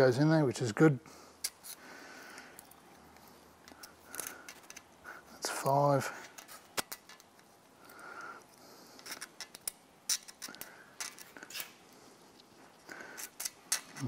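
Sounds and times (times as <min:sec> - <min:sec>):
metal feeler gauge clicks and scrapes: 0:01.4 - 0:14.0.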